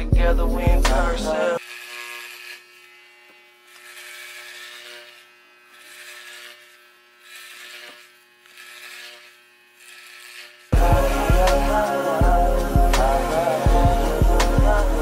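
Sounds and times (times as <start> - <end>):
electric hair clippers buzzing: 0.5 - 15.0.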